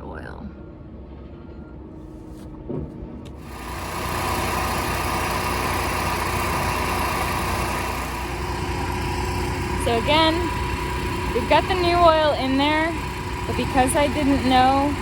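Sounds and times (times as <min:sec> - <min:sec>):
generator starting and running: 0:01.9 - 0:15.0.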